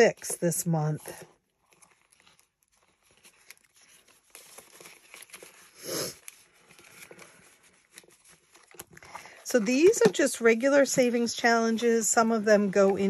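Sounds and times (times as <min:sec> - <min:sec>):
paper bills and plastic crinkling: 0:00.0 - 0:13.0.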